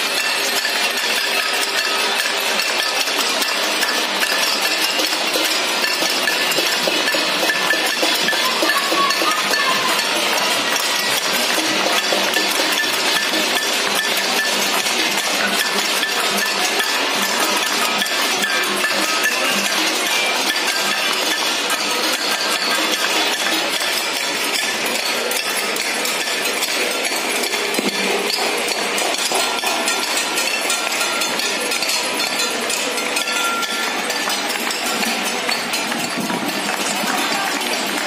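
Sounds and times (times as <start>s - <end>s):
banging metal plates: 0.0s - 38.0s
bells ringing: 0.0s - 38.0s
people clapping: 0.0s - 38.0s.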